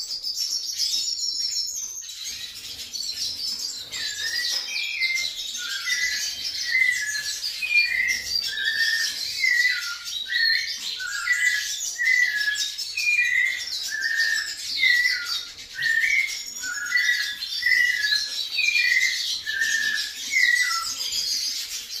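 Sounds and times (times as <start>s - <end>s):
thrush singing whistled phrases: 0.8s - 21.7s.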